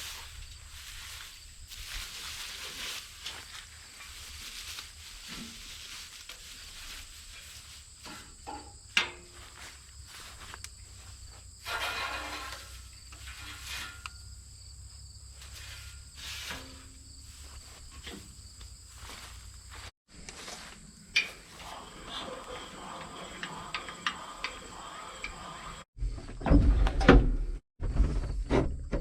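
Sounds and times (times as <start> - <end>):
rustles and knocks: 0.0 - 14.5, 15.3 - 29.0.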